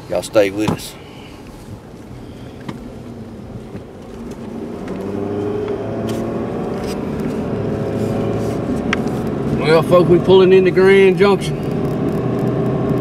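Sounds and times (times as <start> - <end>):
truck engine and tyre noise: 0.0 - 13.0.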